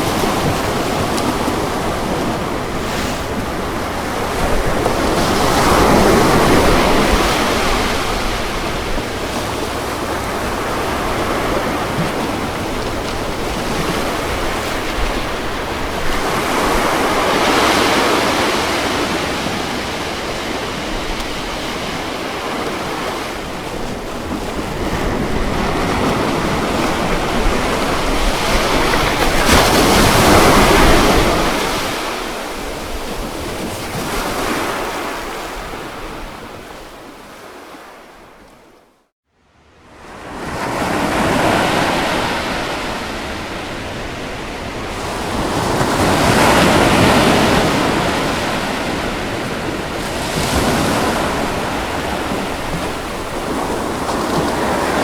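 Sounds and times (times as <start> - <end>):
ocean waves breaking on beach: 0.0 - 38.8, 39.6 - 55.0.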